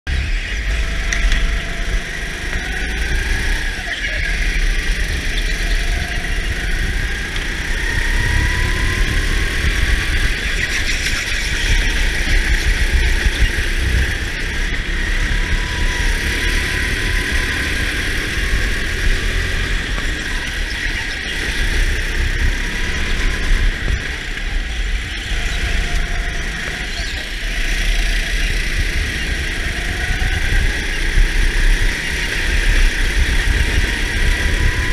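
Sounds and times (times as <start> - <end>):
kart motor running: 0.1 - 34.9
wind rumble on microphone: 0.1 - 34.9.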